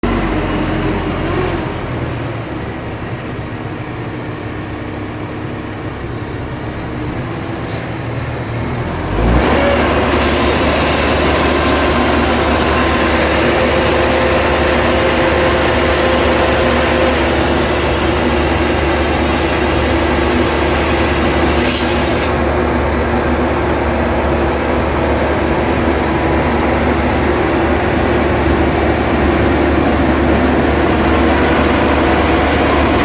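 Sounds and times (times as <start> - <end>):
engine running and revving: 0.0 - 2.9, 6.4 - 33.0.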